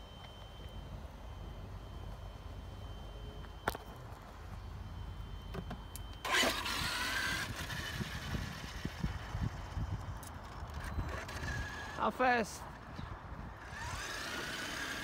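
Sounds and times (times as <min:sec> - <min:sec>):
rc truck motor whine: 0:00.0 - 0:15.0.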